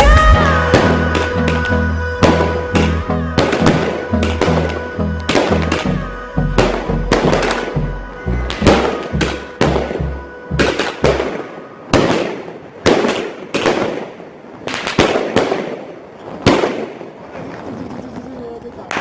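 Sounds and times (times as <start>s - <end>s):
fireworks bangs with echo: 0.0s - 18.2s, 18.8s - 19.0s.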